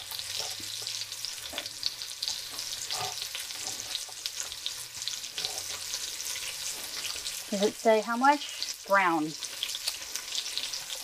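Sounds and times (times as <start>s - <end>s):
vegetables sizzling in frying pan: 0.0s - 11.0s.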